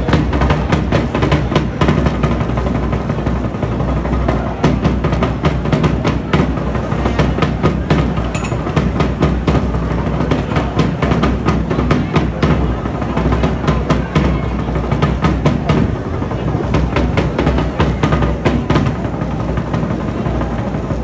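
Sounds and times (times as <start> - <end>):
crowd noise: 0.0 - 21.0
firecrackers banging: 0.0 - 21.0.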